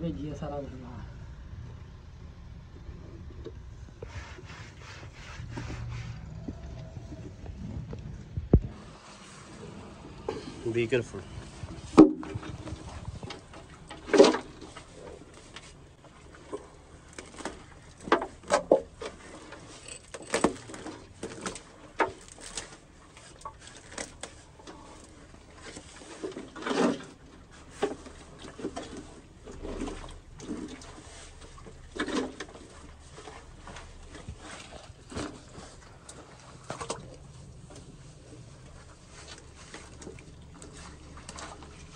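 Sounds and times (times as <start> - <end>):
scrapes rustles and knocks in drain: 2.7 - 41.9.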